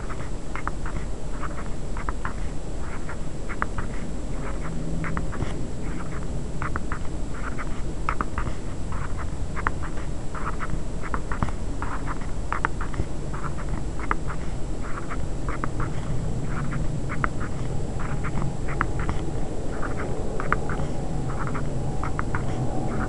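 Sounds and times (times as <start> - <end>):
pen scratching on paper: 0.0 - 23.0
steady low rumble: 0.0 - 23.0.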